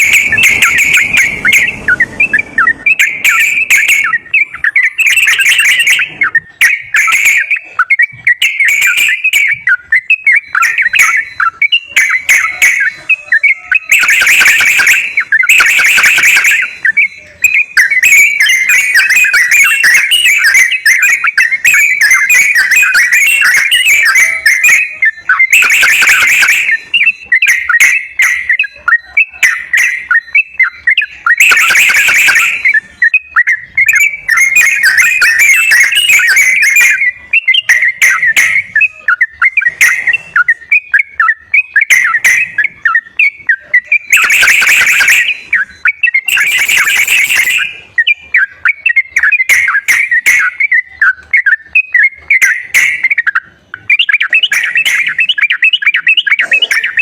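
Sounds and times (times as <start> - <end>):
bulbul chirping and whistling: 0.0 - 57.0
harsh bird chattering: 0.0 - 57.0.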